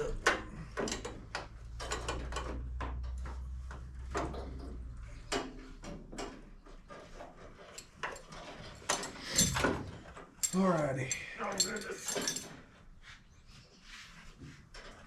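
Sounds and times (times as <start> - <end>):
hand tools clicking and knocking: 0.0 - 12.6.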